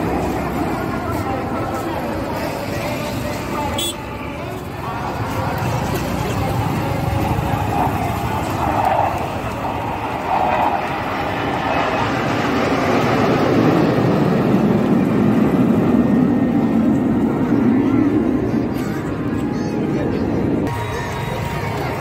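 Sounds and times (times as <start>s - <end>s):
jet engines rushing past: 0.0s - 22.0s.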